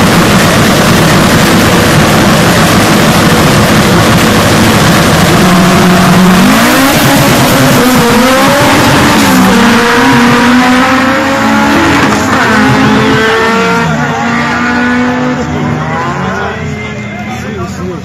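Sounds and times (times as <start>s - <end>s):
drag cars accelerating hard: 0.0s - 16.9s.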